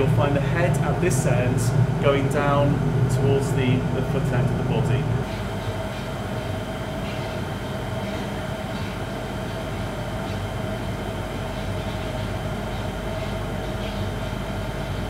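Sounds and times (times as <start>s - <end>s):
constant machinery hum: 0.0s - 15.0s.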